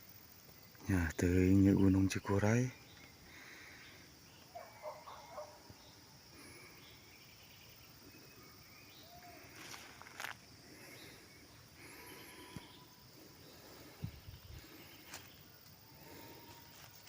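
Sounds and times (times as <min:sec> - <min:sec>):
high insect hum: 0:00.0 - 0:17.0
short bird calls: 0:02.2 - 0:10.1, 0:10.7 - 0:16.7.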